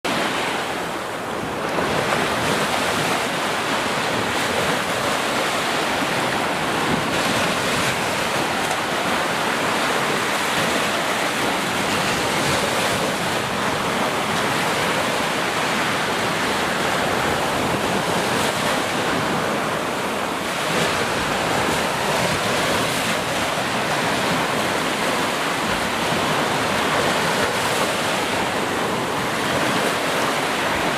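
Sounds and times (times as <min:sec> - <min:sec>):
rushing water: 0:00.0 - 0:30.9.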